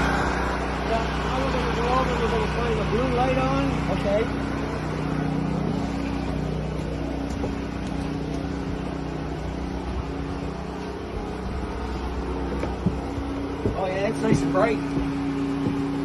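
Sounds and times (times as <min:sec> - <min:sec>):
generator engine humming: 0:00.0 - 0:16.0.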